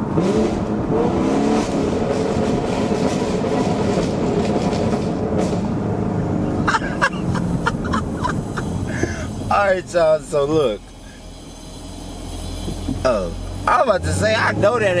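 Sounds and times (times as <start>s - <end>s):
car engine and exhaust drone: 0.0s - 15.0s.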